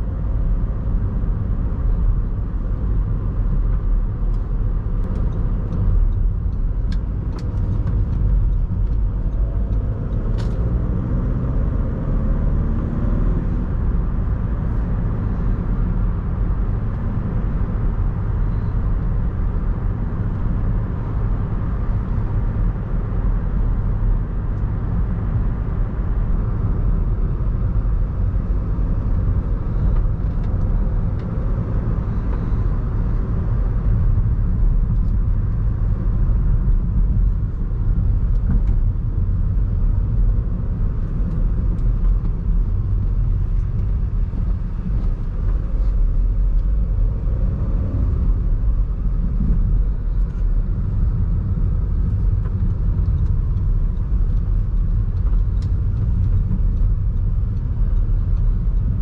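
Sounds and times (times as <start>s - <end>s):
diesel car engine running: 0.0s - 59.0s
tyre and road noise: 0.0s - 59.0s.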